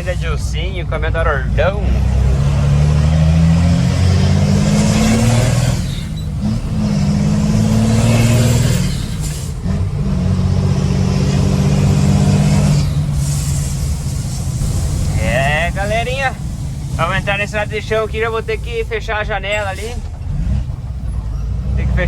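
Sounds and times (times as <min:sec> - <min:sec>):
diesel truck engine pulling hard: 0:00.0 - 0:22.0.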